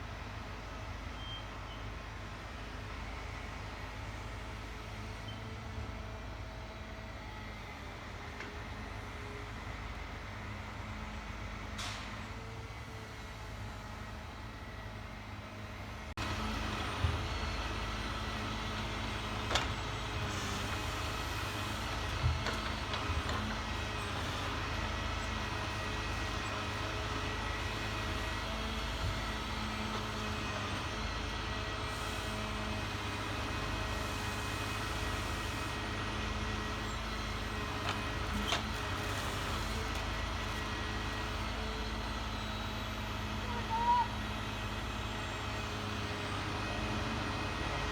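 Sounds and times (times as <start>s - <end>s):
large engine running: 2.1s - 47.9s.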